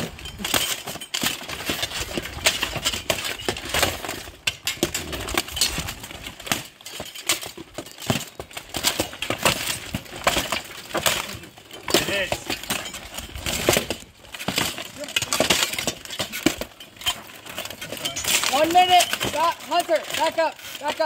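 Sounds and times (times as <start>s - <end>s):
plate armor clanking and scraping: 0.0s - 21.0s.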